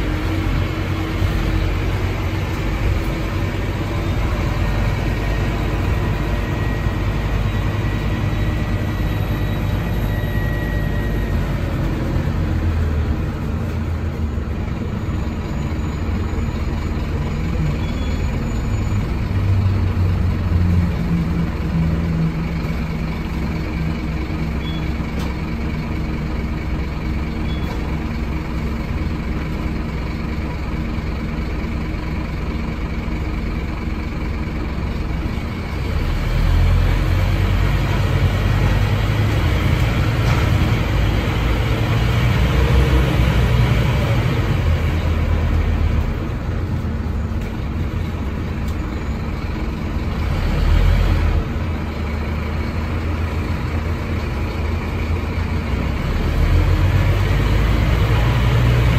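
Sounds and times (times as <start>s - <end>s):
bus engine and gearbox running: 0.0s - 58.9s.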